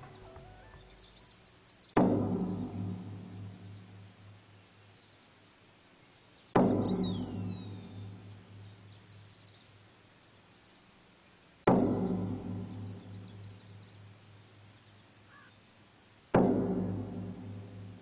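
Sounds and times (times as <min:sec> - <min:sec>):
birds chirping: 0:00.0 - 0:15.8.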